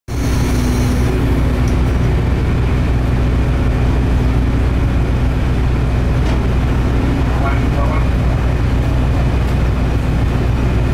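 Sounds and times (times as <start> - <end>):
ship engines humming: 0.1 - 10.9.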